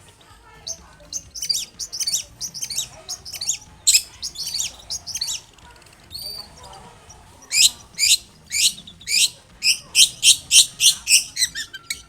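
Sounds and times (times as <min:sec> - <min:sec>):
bird singing high chirps: 0:00.6 - 0:05.5, 0:06.1 - 0:12.0.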